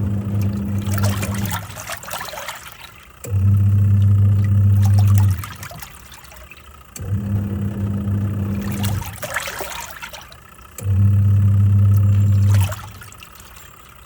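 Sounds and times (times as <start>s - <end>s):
water sloshing and splashing: 0.0s - 7.2s, 8.4s - 14.0s
washing machine motor humming: 0.0s - 14.0s.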